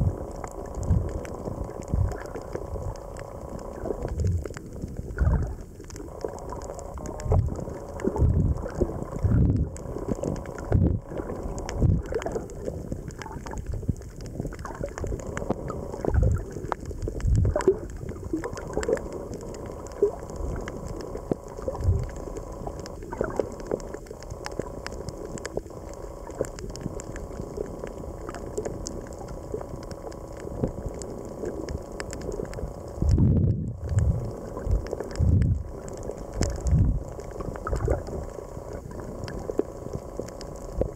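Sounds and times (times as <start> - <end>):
muffled water sloshing and gurgling: 0.0 - 40.9
faint sharp clicks: 0.3 - 33.2, 33.8 - 40.9.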